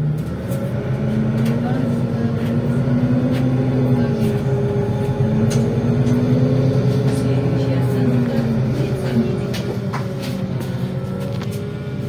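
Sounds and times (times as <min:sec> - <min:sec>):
bus body clicks and rattles: 0:00.0 - 0:06.4, 0:08.1 - 0:11.7
bus engine running: 0:00.0 - 0:12.0.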